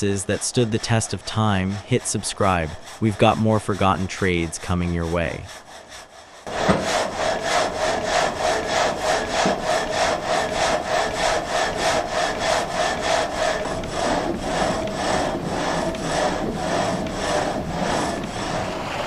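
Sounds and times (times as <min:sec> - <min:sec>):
frame saw rasping through wood: 0:00.0 - 0:19.0.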